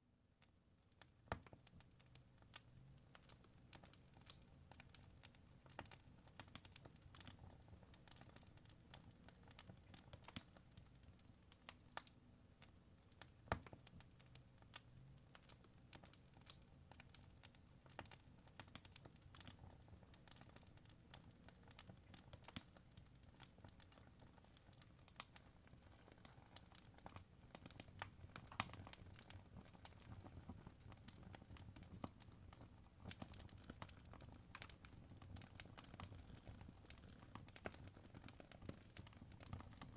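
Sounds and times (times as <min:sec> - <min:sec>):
fireplace crackling: 0:00.3 - 0:39.9.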